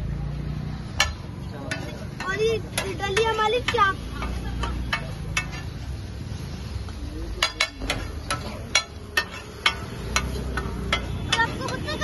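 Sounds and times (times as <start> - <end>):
metal spatula striking griddle: 0.9 - 6.2, 7.3 - 12.0.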